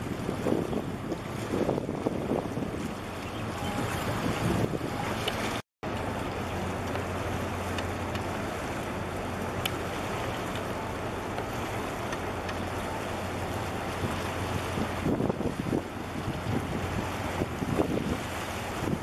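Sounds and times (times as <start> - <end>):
water lapping at shoreline: 0.0 - 19.0
wind: 0.0 - 19.0.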